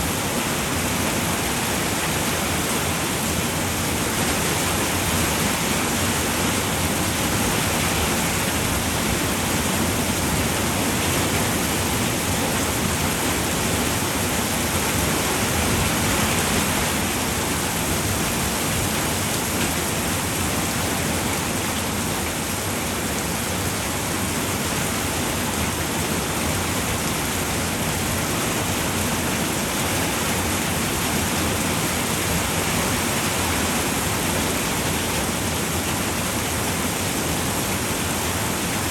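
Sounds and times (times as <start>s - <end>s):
rain falling on a roof: 0.0s - 38.9s.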